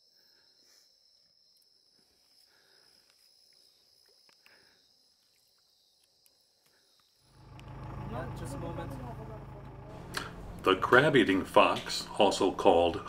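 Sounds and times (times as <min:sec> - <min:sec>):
night insects chorus: 0:00.0 - 0:11.7.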